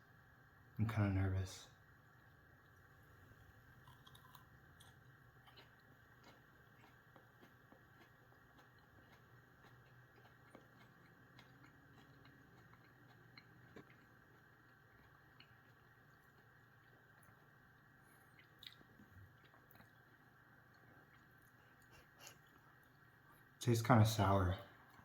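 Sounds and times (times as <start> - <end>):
low room hum: 0.0 - 25.0
chewing pepper: 2.2 - 23.6.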